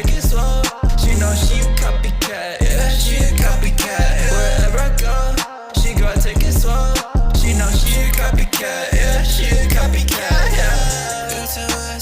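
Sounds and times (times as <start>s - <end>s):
hip hop music with heavy bass: 0.0s - 12.0s.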